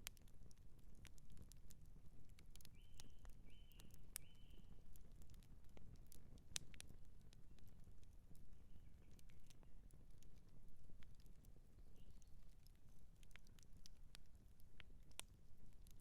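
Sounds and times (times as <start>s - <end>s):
campfire crackling: 0.0s - 16.0s
low rumble of fire: 0.0s - 16.0s.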